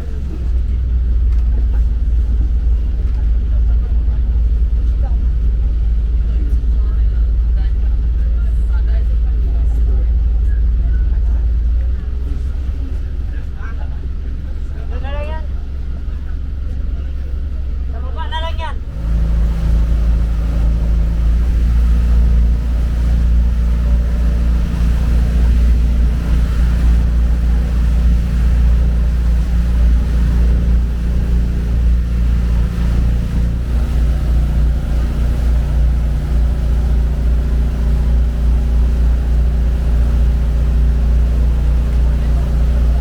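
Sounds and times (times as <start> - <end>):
boat engine drone: 0.0 - 43.0.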